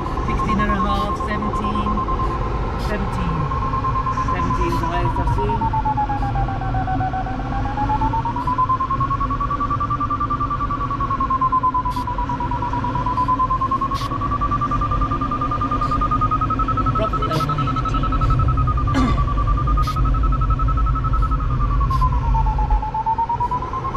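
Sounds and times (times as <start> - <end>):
air rushing in cockpit: 0.0 - 23.9
variometer pulsing beep: 0.0 - 23.9.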